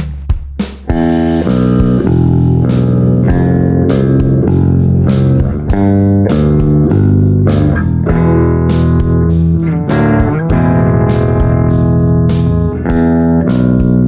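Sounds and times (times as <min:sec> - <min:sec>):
clean electric guitar chords: 0:00.9 - 0:14.0.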